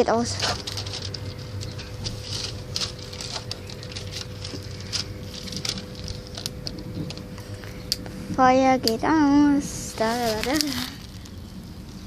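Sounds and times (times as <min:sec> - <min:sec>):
small fire crackling and popping: 0:00.2 - 0:09.1, 0:09.8 - 0:12.0.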